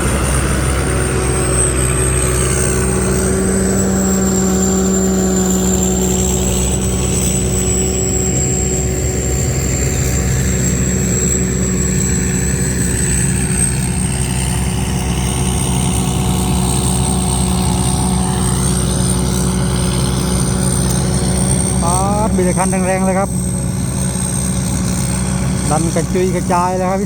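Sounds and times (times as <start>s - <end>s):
diesel engine running under load: 0.0s - 27.0s
steady high whine: 0.0s - 27.0s.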